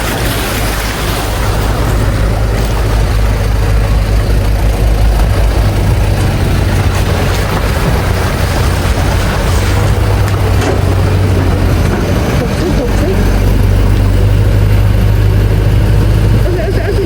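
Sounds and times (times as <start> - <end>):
road or rain noise: 0.0 - 17.0
vehicle engine humming: 0.0 - 17.0.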